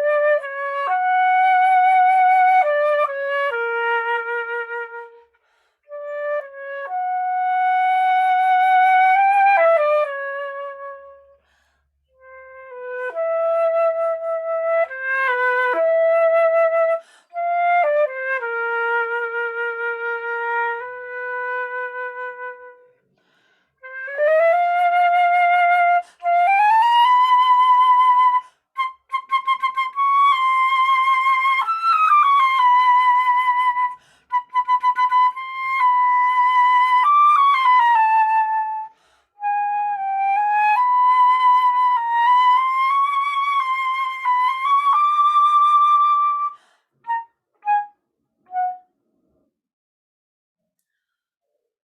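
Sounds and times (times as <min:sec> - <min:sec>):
solo woodwind melody: 0:00.0 - 0:23.2, 0:23.8 - 0:49.0.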